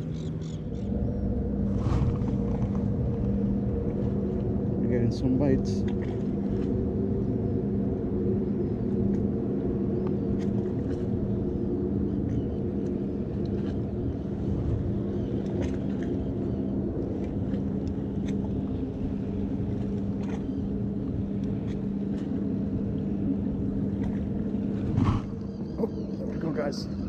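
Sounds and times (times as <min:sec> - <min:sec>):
low motor hum: 0:00.0 - 0:27.0
low rumble: 0:00.0 - 0:27.0.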